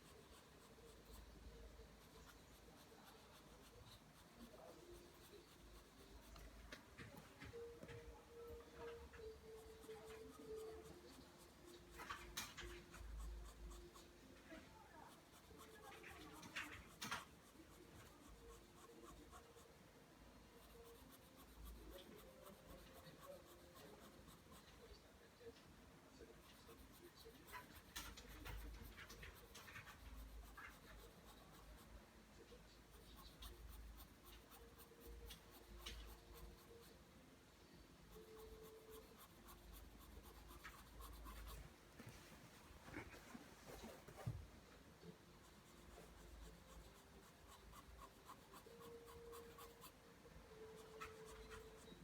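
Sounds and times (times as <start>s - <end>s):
pencil scratching on paper: 0.0s - 19.8s, 20.5s - 25.0s, 26.4s - 37.0s, 38.1s - 44.5s, 45.4s - 52.0s.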